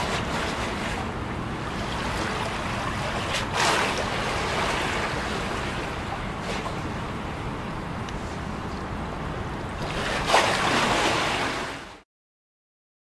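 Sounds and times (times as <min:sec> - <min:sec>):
waves lapping against concrete wall: 0:00.0 - 0:12.0.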